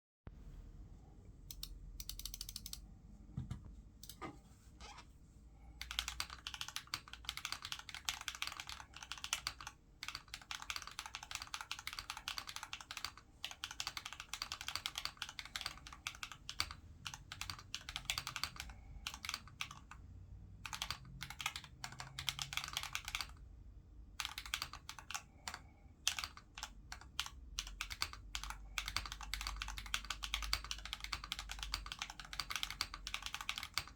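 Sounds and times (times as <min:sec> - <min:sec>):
mechanical keyboard typing: 0:01.5 - 0:02.8, 0:05.8 - 0:20.0, 0:20.6 - 0:23.4, 0:24.2 - 0:33.9.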